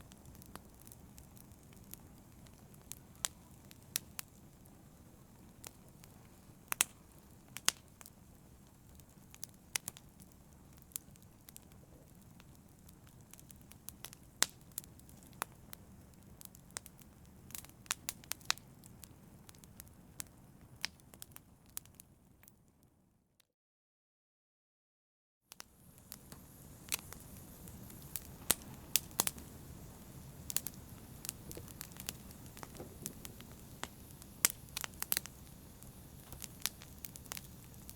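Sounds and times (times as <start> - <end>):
wood fire crackling and popping: 0.0 - 22.5, 25.5 - 37.9.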